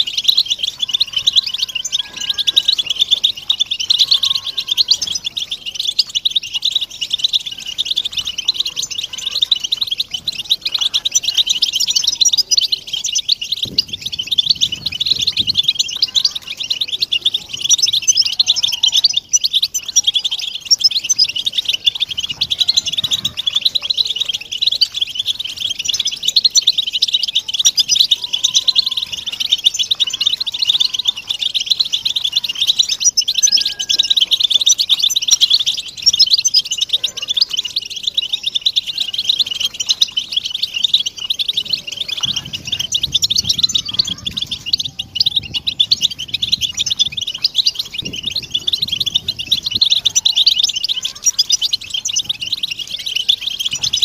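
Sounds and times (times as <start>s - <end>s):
goldfinches twittering: 0.0s - 54.0s.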